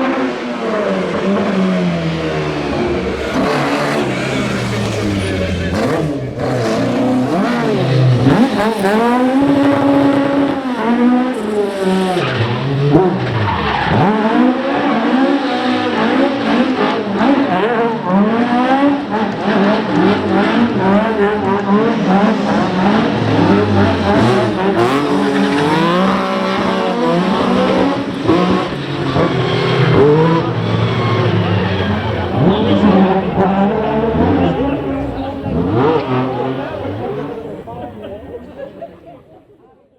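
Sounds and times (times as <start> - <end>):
tyres skidding and squealing: 0.0 - 39.0
rally car engines revving: 0.0 - 39.3.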